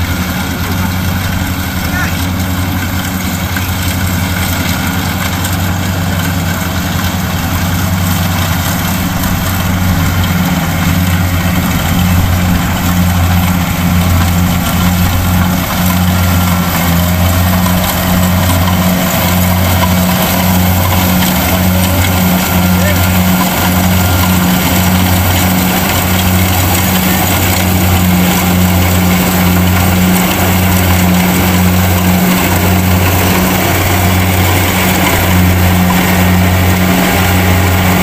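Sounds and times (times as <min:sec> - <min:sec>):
combine harvester diesel engine: 0:00.0 - 0:38.0.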